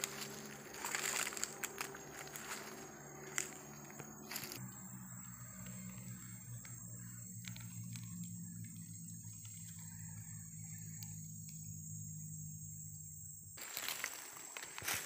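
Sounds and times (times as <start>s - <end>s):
low hum: 0.0s - 13.6s
insects chirping: 0.0s - 15.0s.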